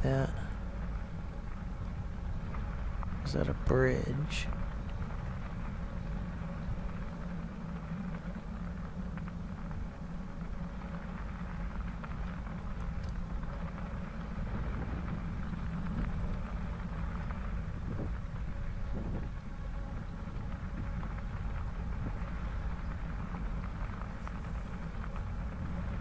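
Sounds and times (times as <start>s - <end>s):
bicycle tyres rolling on gravel: 0.0s - 26.0s
steady low rumble: 0.0s - 26.0s.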